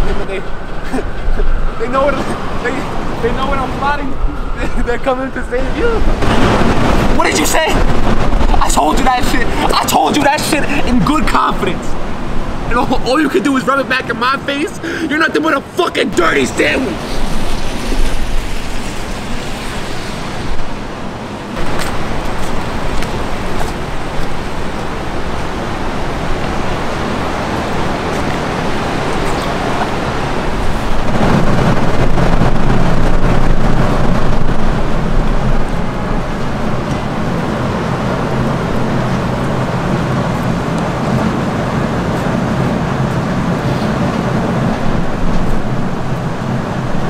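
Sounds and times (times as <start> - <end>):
city traffic passing: 0.0 - 47.0.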